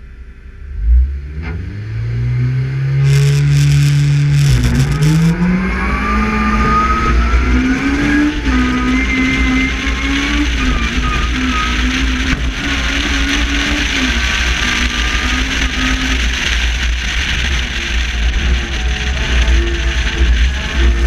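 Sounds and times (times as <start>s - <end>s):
car engine running hard: 0.0s - 21.0s
wind and road noise rumble: 0.0s - 21.0s.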